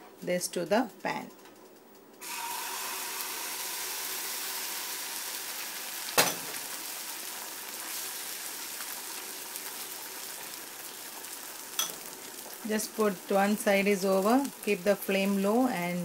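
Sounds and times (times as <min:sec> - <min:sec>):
egg sizzling in frying pan: 0:02.2 - 0:15.7.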